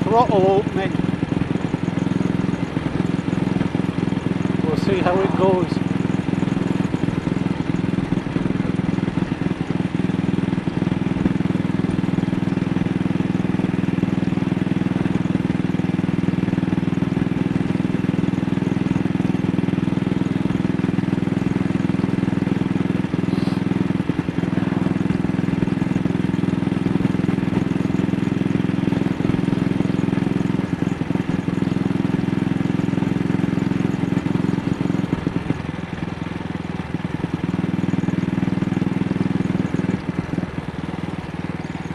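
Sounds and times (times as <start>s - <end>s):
motorcycle engine misfiring: 0.0s - 41.9s.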